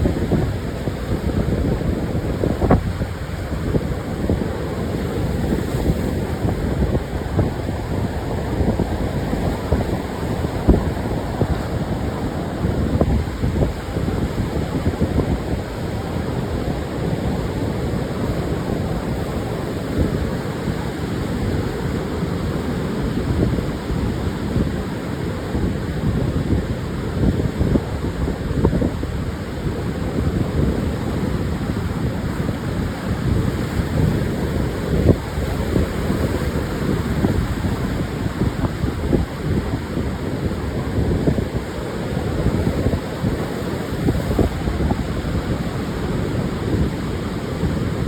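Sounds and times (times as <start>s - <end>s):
surf washing onto beach: 0.0s - 48.0s
wind buffeting microphone: 0.0s - 48.0s.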